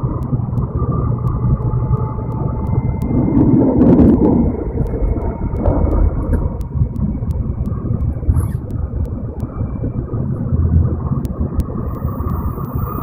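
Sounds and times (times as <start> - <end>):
faint clicks: 0.0 - 13.0.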